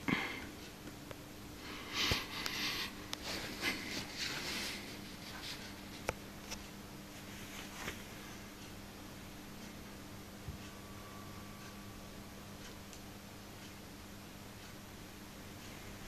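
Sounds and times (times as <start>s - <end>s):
amplifier mains hum: 0.0s - 16.0s.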